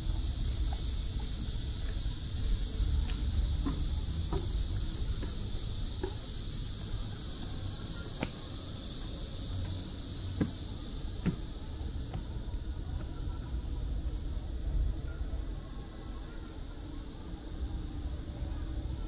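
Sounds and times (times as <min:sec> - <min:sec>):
low traffic rumble: 0:00.0 - 0:15.9
steady high hiss: 0:00.0 - 0:19.0.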